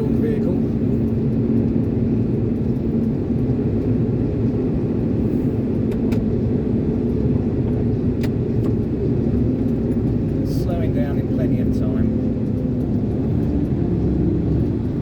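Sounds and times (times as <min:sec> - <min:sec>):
diesel engine running: 0:00.0 - 0:15.0
road rumble: 0:00.0 - 0:15.0.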